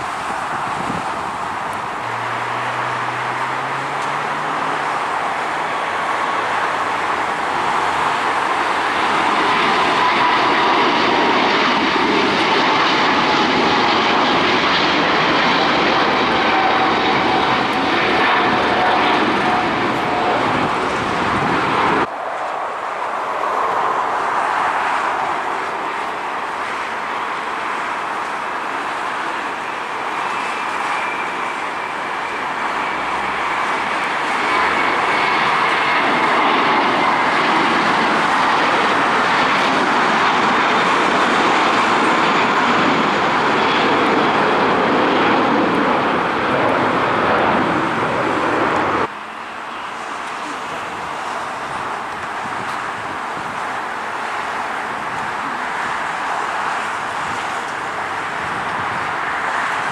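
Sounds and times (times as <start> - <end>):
jet engines roaring at takeoff: 0.0 - 59.9.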